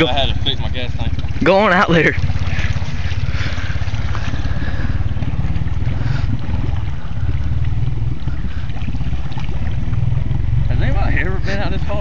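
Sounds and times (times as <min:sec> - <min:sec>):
atv engine running under load: 0:00.0 - 0:12.0.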